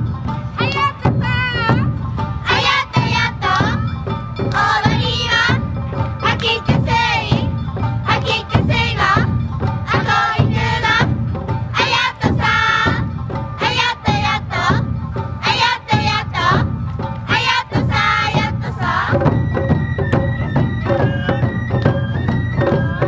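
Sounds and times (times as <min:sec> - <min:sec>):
drum beat: 0:00.0 - 0:23.0
performers shouting rhythmic chants: 0:00.1 - 0:19.7.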